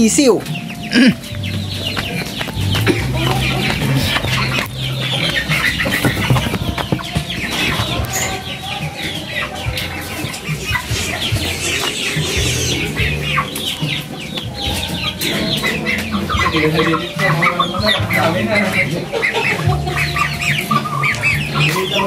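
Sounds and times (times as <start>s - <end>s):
chicks peeping and clucking: 0.0s - 22.0s.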